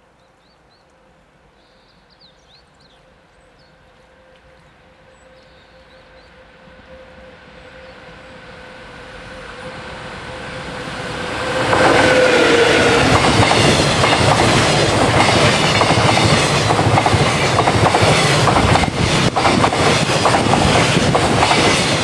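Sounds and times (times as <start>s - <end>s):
electric locomotive whine: 1.0s - 22.0s.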